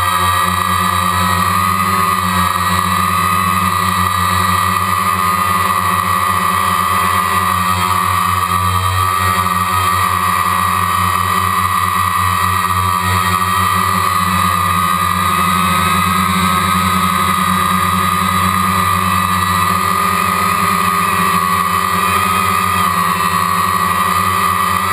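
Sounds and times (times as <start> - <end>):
drone propellers humming and whining: 0.0 - 24.9.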